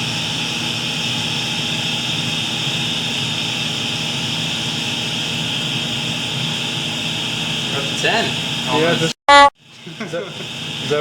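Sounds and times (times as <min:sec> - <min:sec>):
vacuum pump whining: 0:00.0 - 0:09.1.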